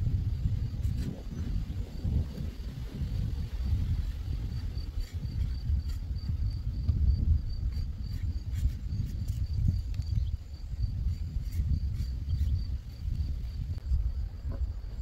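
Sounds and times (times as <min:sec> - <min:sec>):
cricket chirping: 0:00.0 - 0:15.0
wind rumble on microphone: 0:00.0 - 0:15.0.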